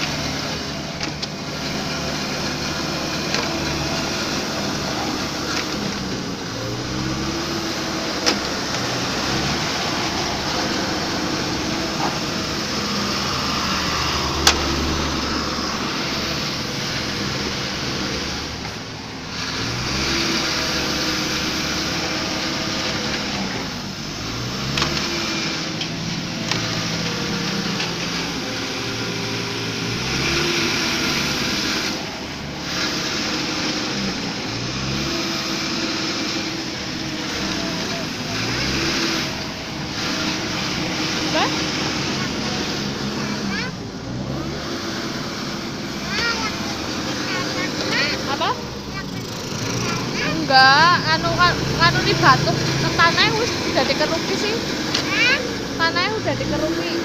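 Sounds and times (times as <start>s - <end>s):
excavator diesel engine working: 0.0s - 57.0s.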